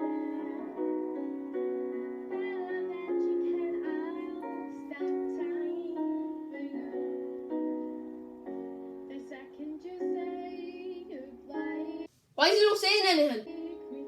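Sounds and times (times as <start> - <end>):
held keyboard chords: 0.0 - 12.1
girl singing a slow song: 0.0 - 14.0.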